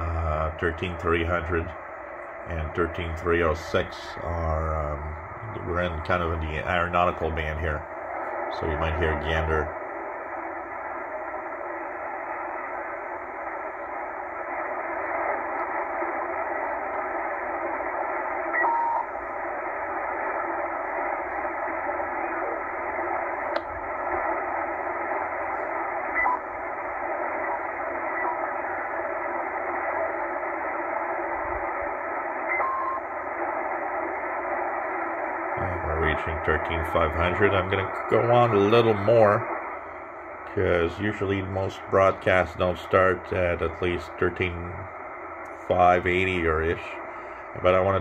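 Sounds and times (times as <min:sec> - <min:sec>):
brief steady radio tones: 0:00.0 - 0:48.0
shortwave radio static: 0:00.0 - 0:48.0.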